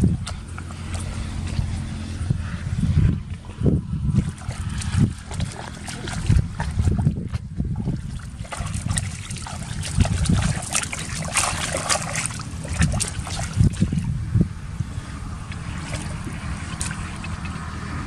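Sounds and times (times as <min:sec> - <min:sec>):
muddy water splashing: 0:00.0 - 0:18.0
wind buffeting microphone: 0:00.0 - 0:18.0.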